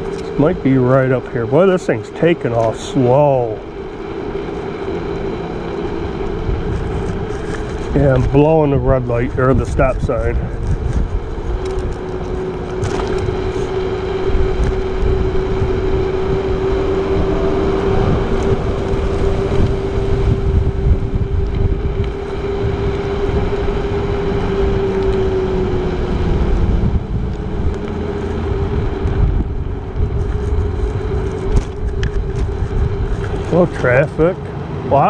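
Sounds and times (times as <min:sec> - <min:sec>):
electric scooter motor whine: 0:00.0 - 0:35.0
road rumble: 0:00.0 - 0:35.0
wind buffeting microphone: 0:00.0 - 0:35.0.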